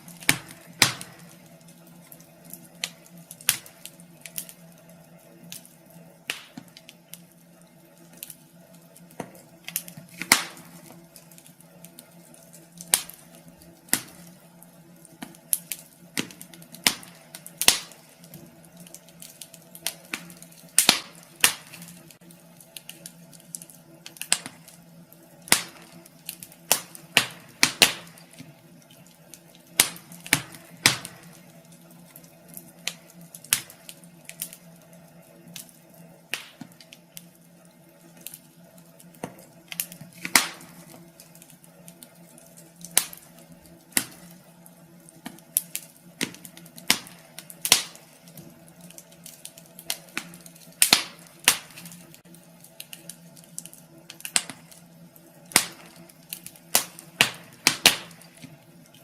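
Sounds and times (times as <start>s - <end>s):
fire popping and snapping: 0.0s - 59.0s
wood fire crackling: 0.0s - 59.0s.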